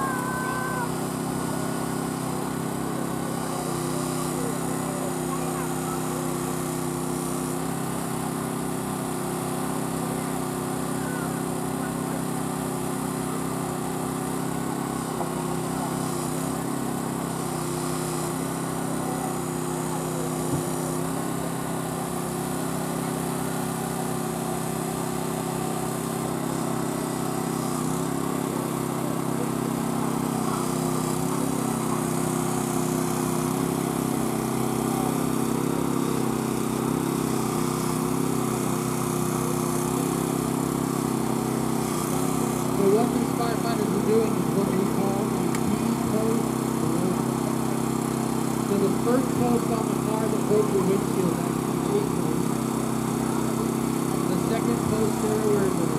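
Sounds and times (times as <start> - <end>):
small gasoline engine running: 0.0 - 55.9.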